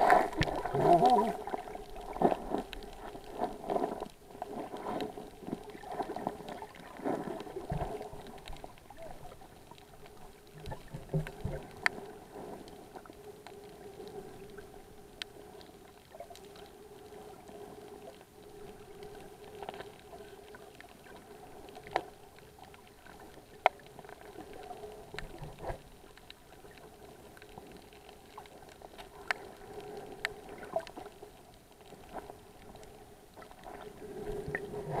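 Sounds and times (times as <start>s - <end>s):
underwater low hum: 0.0s - 35.0s.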